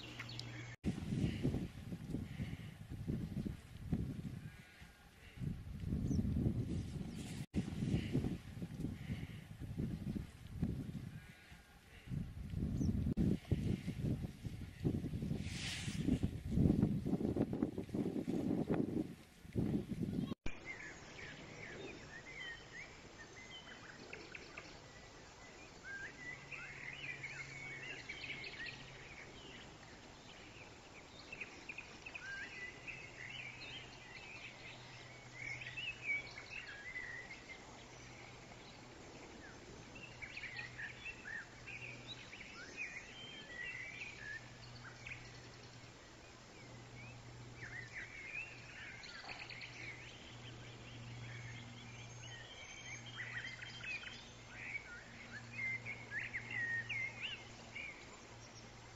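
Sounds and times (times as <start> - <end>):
small birds chirping: 0.0 - 15.4, 19.5 - 58.9
outdoor background noise: 0.0 - 58.9.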